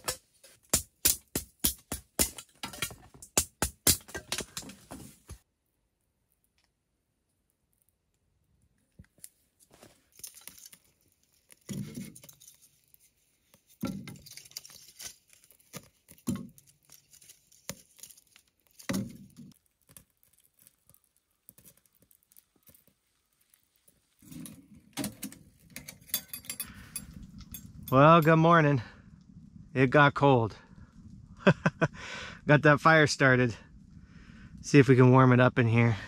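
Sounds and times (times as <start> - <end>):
fire crackling in stove: 0.0 - 36.0.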